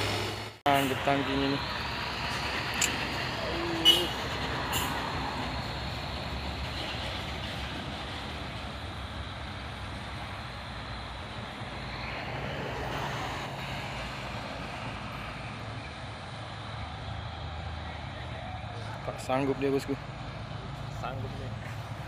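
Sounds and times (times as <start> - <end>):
diesel truck engine drone: 0.0 - 22.0
road noise: 0.0 - 22.0.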